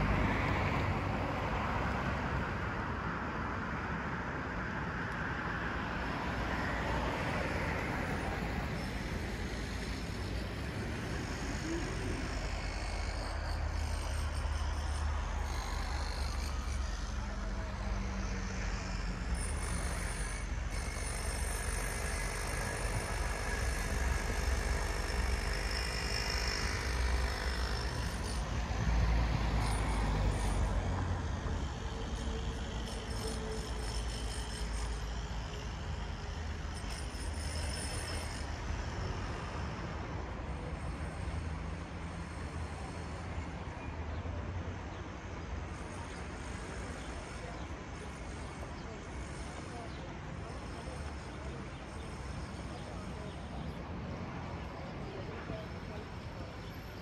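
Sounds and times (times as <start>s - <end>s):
cars and trucks passing: 0.0s - 57.0s.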